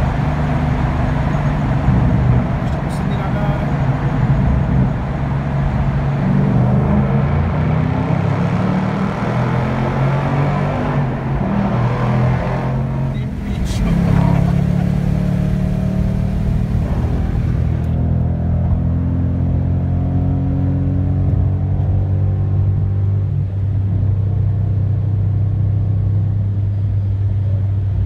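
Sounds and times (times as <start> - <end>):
car engine drone from cabin: 0.0 - 28.0.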